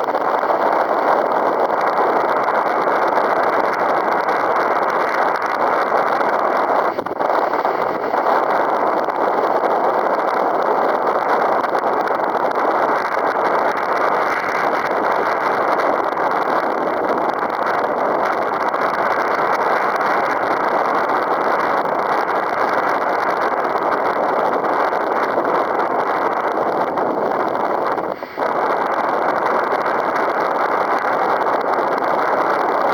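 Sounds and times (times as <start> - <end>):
strong wind on microphone: 0.0 - 32.9.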